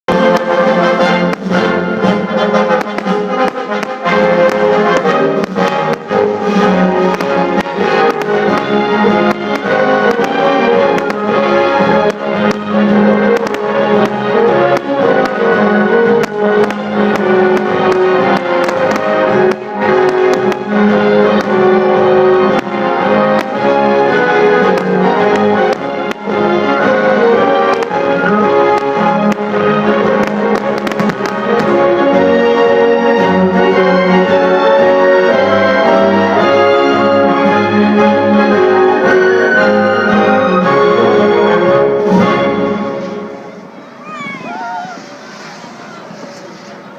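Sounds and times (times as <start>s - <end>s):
brass music: 0.1s - 44.0s.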